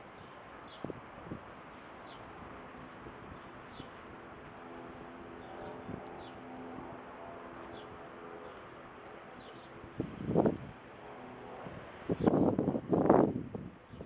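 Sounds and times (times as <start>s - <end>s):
distant traffic hum: 0.0s - 13.2s
cicadas buzzing: 0.0s - 14.0s.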